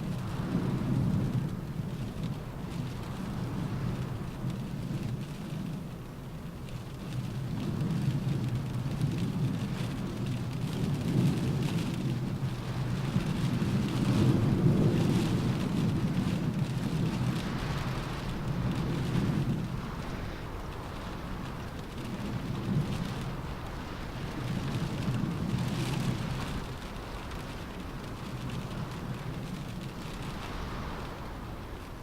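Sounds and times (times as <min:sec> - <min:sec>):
deep wind rumble: 0:00.0 - 0:32.0
rain pattering on a car roof: 0:00.0 - 0:32.0.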